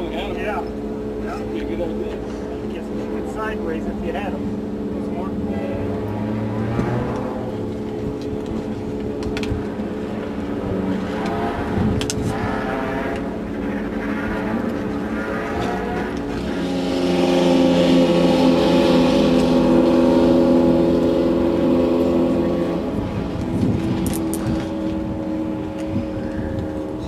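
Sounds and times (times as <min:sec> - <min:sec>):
race vehicle engine running: 0:00.0 - 0:27.0.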